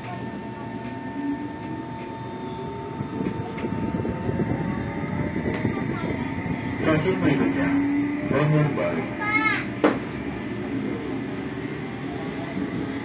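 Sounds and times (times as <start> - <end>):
electric train traction motor hum: 0.0 - 13.0
high whine: 0.3 - 13.0.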